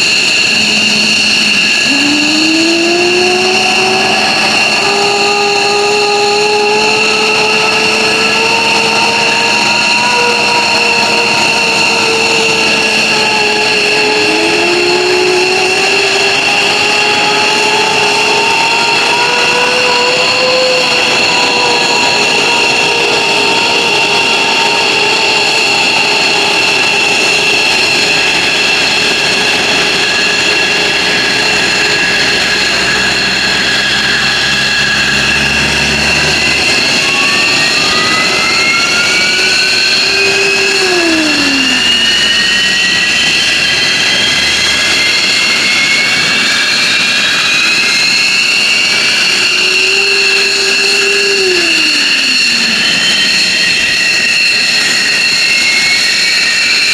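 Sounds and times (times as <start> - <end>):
short tone dropping in pitch: 0.0 - 26.3, 30.4 - 45.4, 47.2 - 55.3
jet engine spooling up: 0.0 - 56.9
jet engines whining: 0.0 - 56.9.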